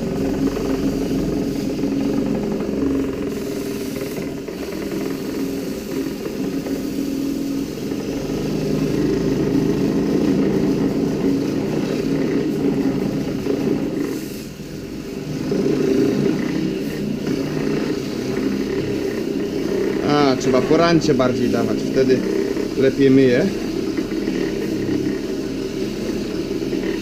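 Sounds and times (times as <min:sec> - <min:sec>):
roller cleaner whirring: 0:00.0 - 0:27.0
water spraying off roller: 0:00.0 - 0:27.0.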